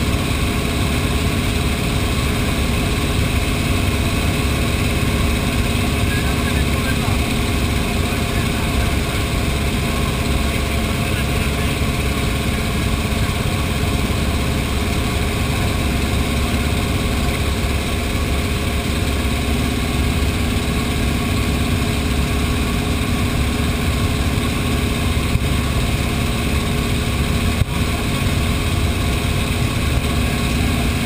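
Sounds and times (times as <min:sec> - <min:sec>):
radial aircraft engine droning: 0:00.0 - 0:31.0.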